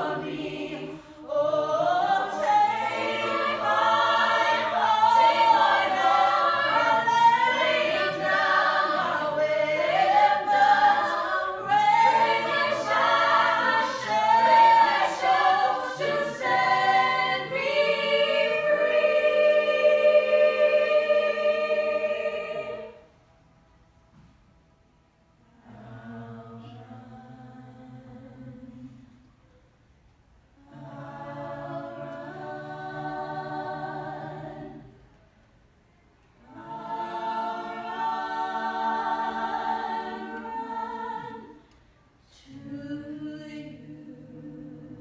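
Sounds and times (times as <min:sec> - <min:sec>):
a cappella group singing in harmony: 0:00.0 - 0:23.1, 0:25.5 - 0:29.4, 0:30.6 - 0:35.2, 0:36.3 - 0:45.0.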